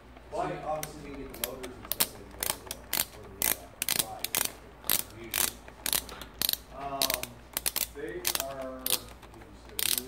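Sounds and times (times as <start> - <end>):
socket ratchet clicking: 0.7 - 10.0.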